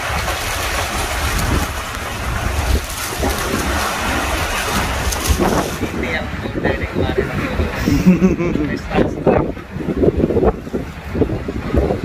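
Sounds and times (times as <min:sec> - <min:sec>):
rush of wind and sea: 0:00.0 - 0:12.0
wind buffeting microphone: 0:00.0 - 0:12.0.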